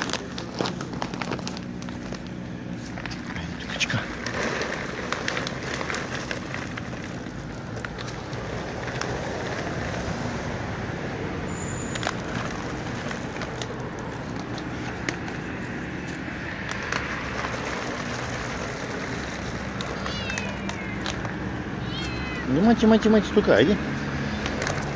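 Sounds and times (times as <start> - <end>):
plastic bag crinkling: 0.0 - 10.4, 11.7 - 21.4, 23.7 - 24.9
traffic hum: 0.0 - 24.9.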